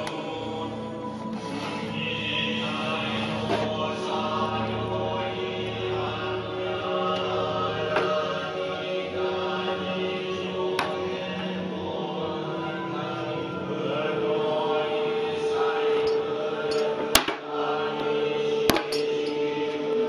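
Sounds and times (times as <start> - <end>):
chant-like voices music: 0.0 - 20.0.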